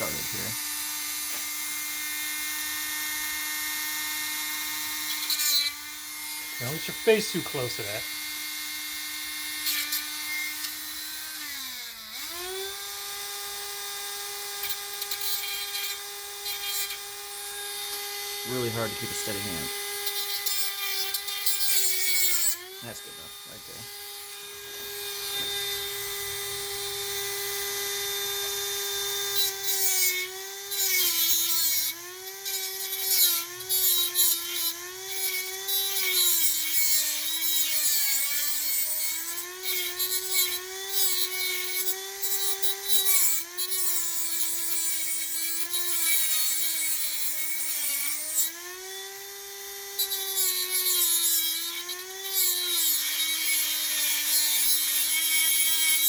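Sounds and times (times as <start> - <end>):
rotary tool grinding metal: 0.0 - 56.0.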